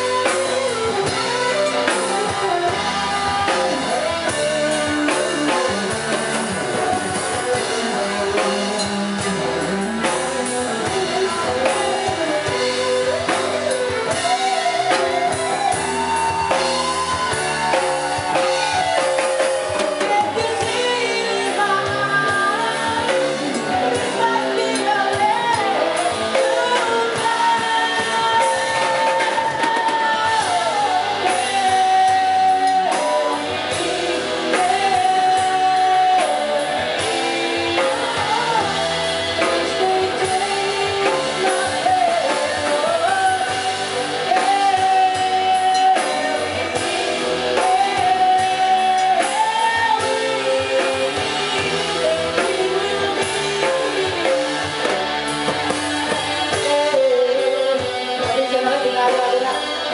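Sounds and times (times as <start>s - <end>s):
drum kit: 0.0s - 59.9s
electric guitar: 0.0s - 59.9s
keyboard: 0.0s - 59.9s
person singing: 0.0s - 59.9s.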